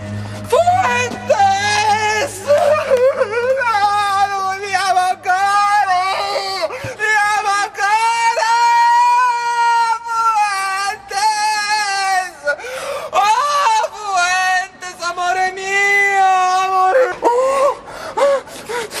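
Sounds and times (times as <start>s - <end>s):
young man wailing and sobbing: 0.2s - 19.0s.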